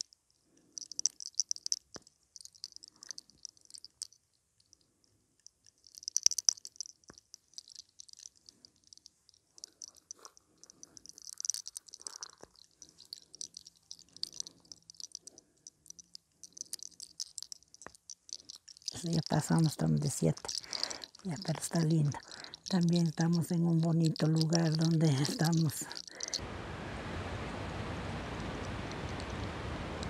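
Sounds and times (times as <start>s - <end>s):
hair crackling with tiny clicks: 0.0s - 26.4s, 28.6s - 30.0s.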